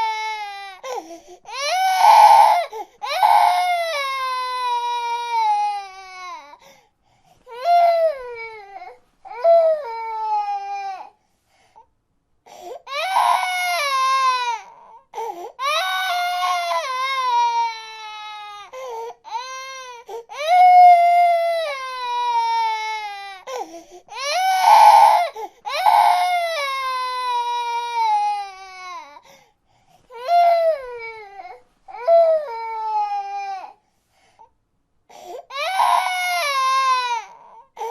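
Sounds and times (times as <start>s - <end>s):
baby crying: 0.0s - 6.6s, 7.5s - 11.2s, 12.8s - 29.2s, 30.1s - 33.8s, 35.1s - 37.9s.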